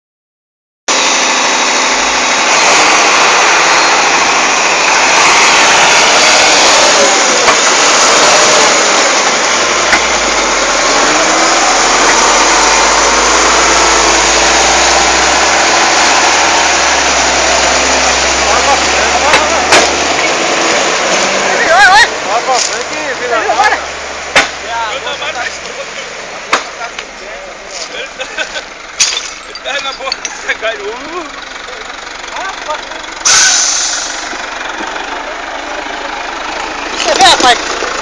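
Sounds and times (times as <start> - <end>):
dense noisy sound: 0.9 - 38.0
vehicle engine running loud: 0.9 - 38.0.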